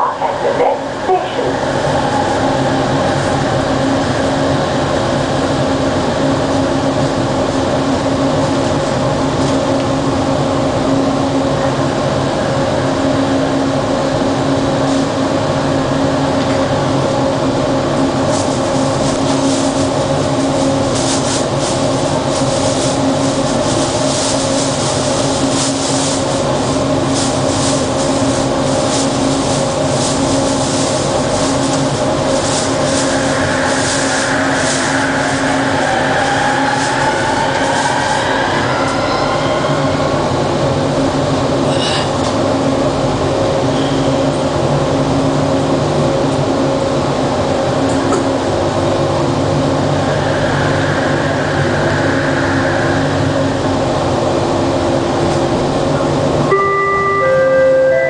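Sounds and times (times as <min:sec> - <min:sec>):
train running with steady hum: 0:00.0 - 0:58.0.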